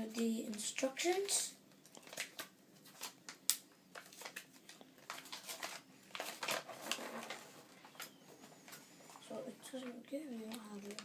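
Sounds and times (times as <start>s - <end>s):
paper rustling: 1.9s - 11.0s.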